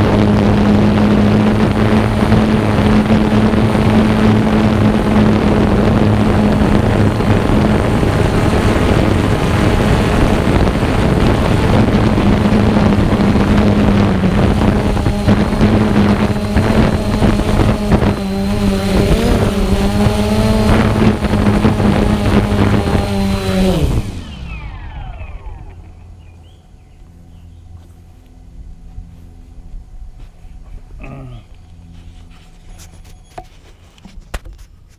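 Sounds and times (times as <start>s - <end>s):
drone propellers humming: 0.0s - 34.9s
wind noise: 0.0s - 34.9s.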